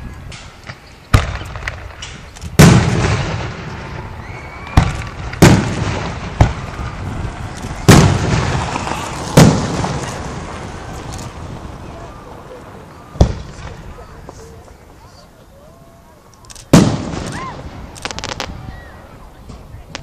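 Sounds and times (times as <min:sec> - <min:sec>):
firework sharp bangs: 0:00.3 - 0:12.2, 0:12.8 - 0:14.6, 0:16.7 - 0:20.0
firework shells booming with echo: 0:00.3 - 0:14.9, 0:16.7 - 0:20.0
small firework cracks: 0:00.4 - 0:15.0, 0:16.2 - 0:20.0.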